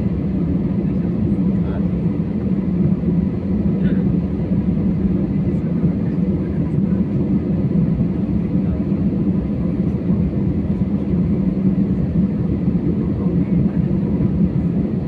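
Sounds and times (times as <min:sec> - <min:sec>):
jet engines rumbling in cabin: 0:00.0 - 0:15.0.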